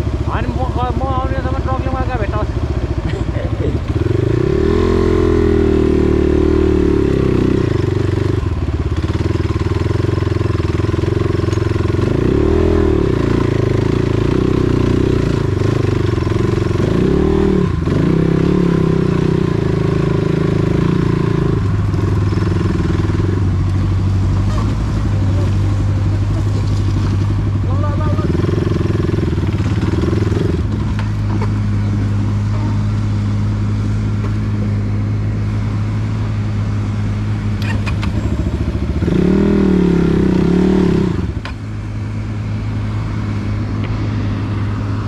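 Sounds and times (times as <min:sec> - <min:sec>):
vehicle engine revving: 0:00.0 - 0:45.0.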